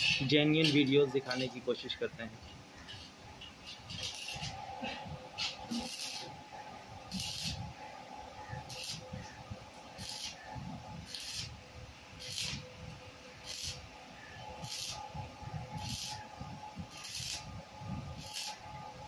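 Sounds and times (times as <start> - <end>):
welding arc crackling and hissing: 0.0 - 2.0, 2.8 - 19.0
faint steady hum: 0.0 - 19.0.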